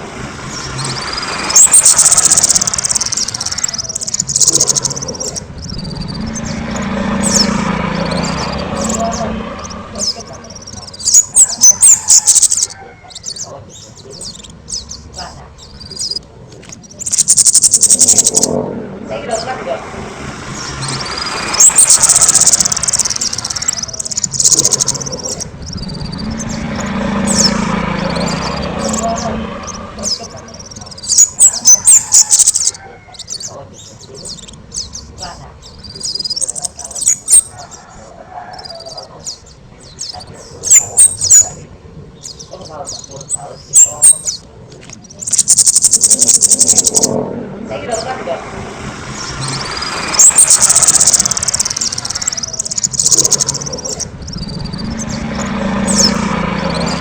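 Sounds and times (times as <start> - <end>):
songbird singing high trill: 0.5 - 18.6, 20.6 - 37.6, 38.8 - 41.6, 42.2 - 47.2, 49.2 - 57.0.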